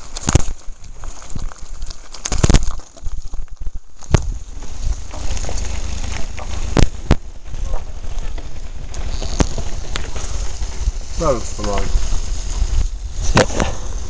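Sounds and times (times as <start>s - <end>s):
bike rolling over gravel: 0.0s - 14.0s
wind buffeting microphone: 0.0s - 14.0s.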